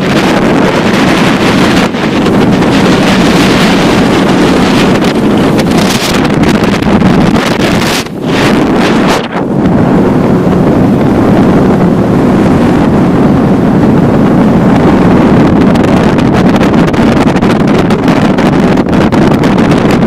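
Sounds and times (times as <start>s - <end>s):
motorboat engine running: 0.0s - 20.0s
wind buffeting microphone: 0.0s - 20.0s.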